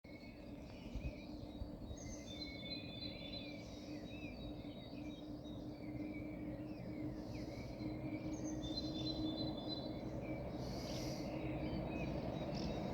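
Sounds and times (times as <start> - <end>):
faint constant hum: 0.1 - 12.9
small birds chirping: 0.1 - 12.9.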